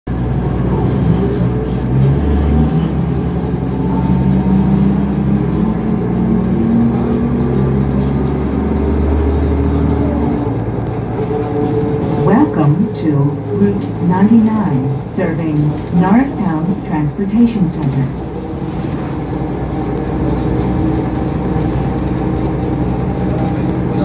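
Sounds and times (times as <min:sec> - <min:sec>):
bus engine running: 0:00.0 - 0:24.0
deep rumble: 0:00.1 - 0:24.0.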